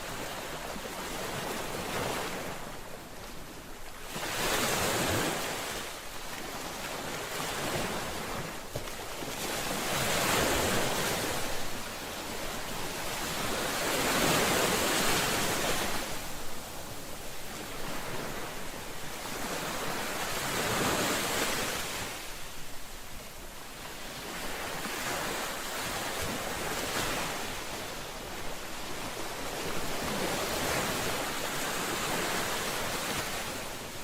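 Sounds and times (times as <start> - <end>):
ocean waves breaking: 0.0 - 22.5, 23.8 - 34.0.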